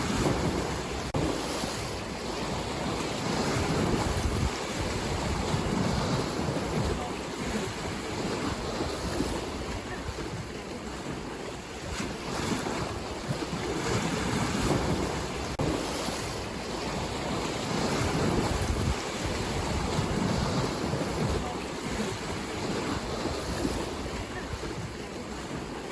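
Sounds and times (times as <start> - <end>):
ocean waves on shore: 0.0 - 25.9.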